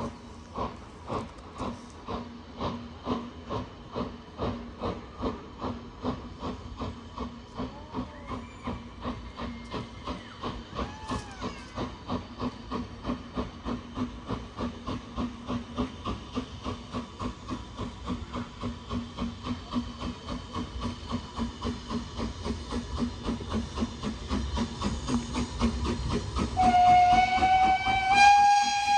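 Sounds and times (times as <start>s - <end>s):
steam hissing: 0.0s - 28.9s
steam locomotive exhaust beats: 0.0s - 28.9s.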